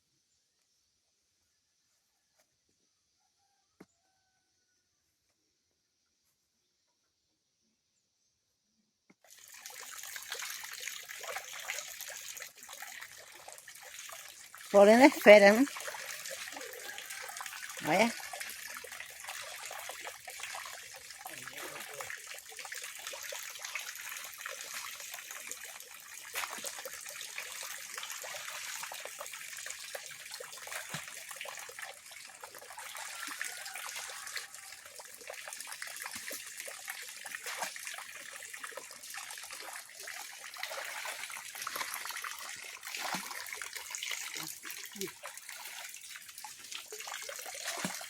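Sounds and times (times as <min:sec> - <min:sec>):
water splashing and trickling: 0:09.2 - 0:48.0.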